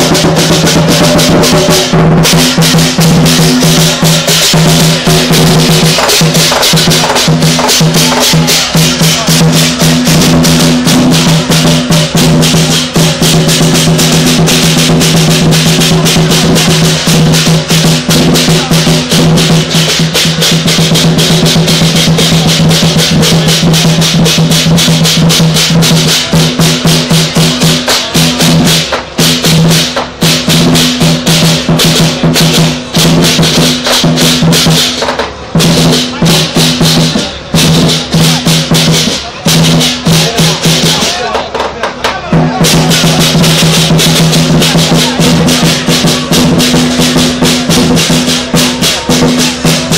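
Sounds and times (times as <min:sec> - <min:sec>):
clashing cymbals: 0:00.0 - 0:49.9
large drum beaten rapidly: 0:00.0 - 0:49.9.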